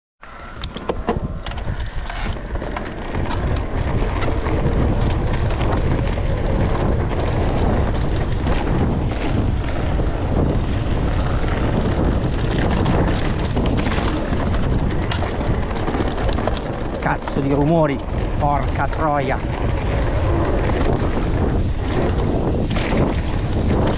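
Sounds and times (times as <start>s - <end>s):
bike clicking and rattling: 0.3s - 23.9s
wind buffeting microphone: 0.3s - 23.9s.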